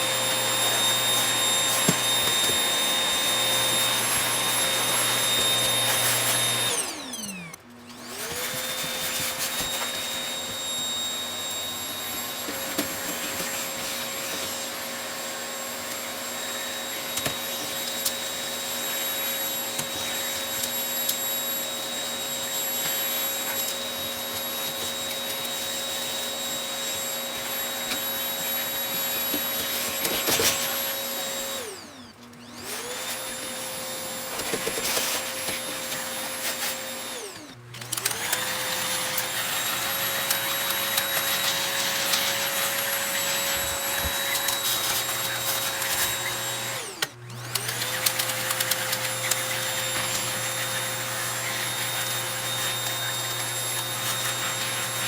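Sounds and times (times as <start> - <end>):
vacuum cleaner motor whine: 0.0 - 55.0.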